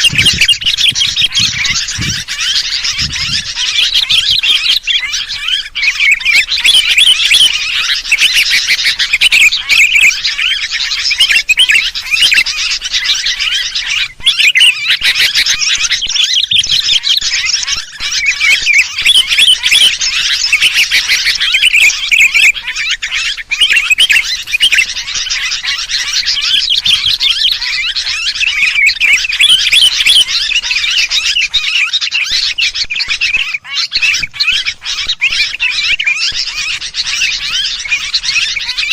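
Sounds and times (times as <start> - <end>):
birds chattering and chirping: 0.0 - 38.9.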